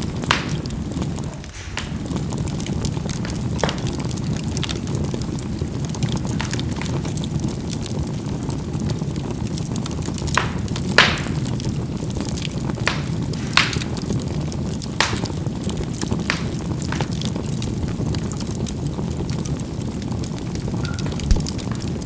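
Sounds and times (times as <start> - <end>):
fire crackles and pops: 0.0 - 22.0
fire rumbling: 0.0 - 22.0.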